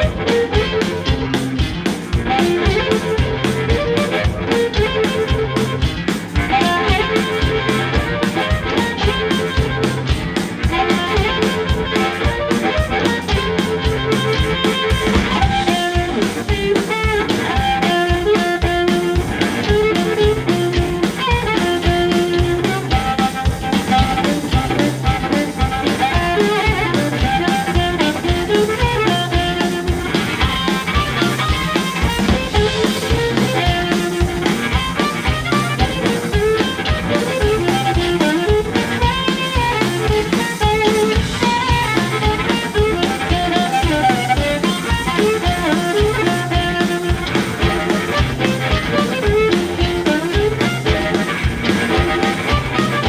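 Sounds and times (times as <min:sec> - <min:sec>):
drum kit beat: 0:00.0 - 0:53.0
electric guitar: 0:00.0 - 0:53.0
harmonica riffs: 0:00.0 - 0:53.0.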